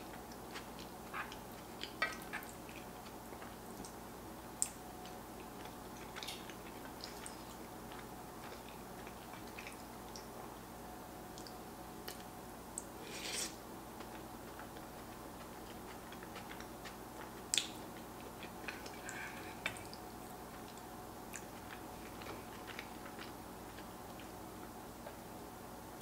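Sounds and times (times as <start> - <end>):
quiet chewing: 0.0 - 10.4, 11.3 - 25.3.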